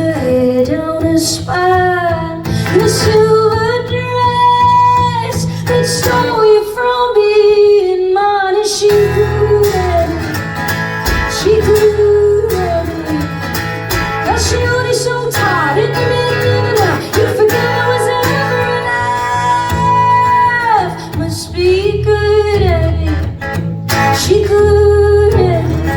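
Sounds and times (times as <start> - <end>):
acoustic guitar: 0.0 - 25.9
woman singing: 0.0 - 25.9.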